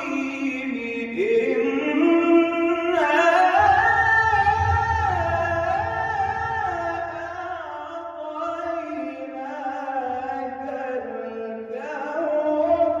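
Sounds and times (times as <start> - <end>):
person chanting recitation: 0.0 - 13.0.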